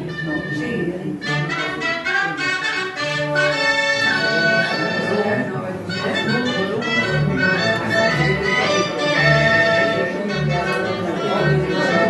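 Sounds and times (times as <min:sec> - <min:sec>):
low musical accompaniment: 0:00.0 - 0:12.0
melody of held notes: 0:00.0 - 0:12.0.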